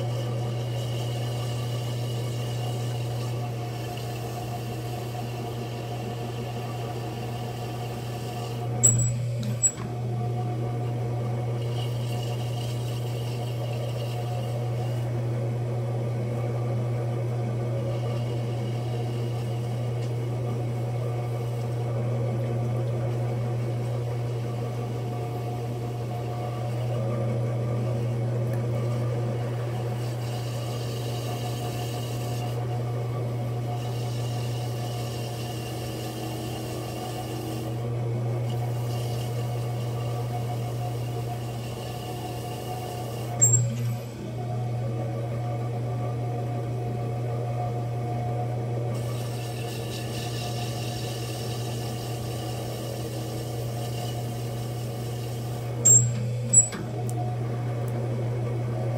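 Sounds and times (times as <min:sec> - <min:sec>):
pottery wheel motor humming: 0:00.0 - 0:58.9.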